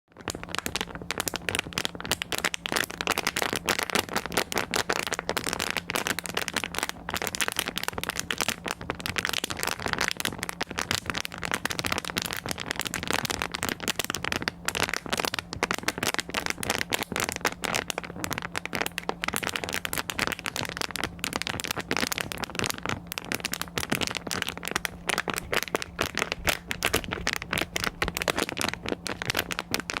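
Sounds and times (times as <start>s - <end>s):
dense irregular crackling: 0.1s - 30.0s
steady low hum: 0.2s - 30.0s.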